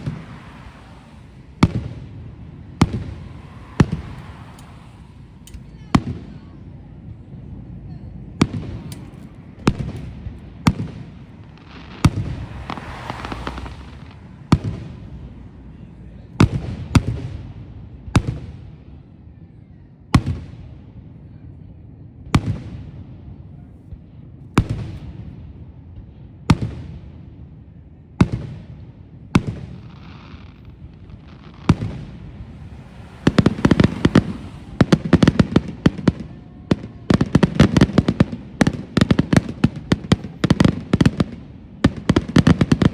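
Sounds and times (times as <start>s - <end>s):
fireworks bursting with bangs: 0.0s - 19.0s, 23.9s - 27.4s, 28.2s - 42.9s
rumble after fireworks: 0.0s - 42.9s.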